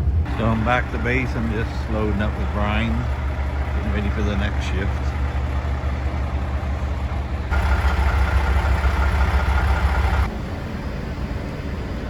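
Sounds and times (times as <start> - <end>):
diesel engine idling: 0.0 - 12.0
whining mechanical noise: 0.0 - 12.0.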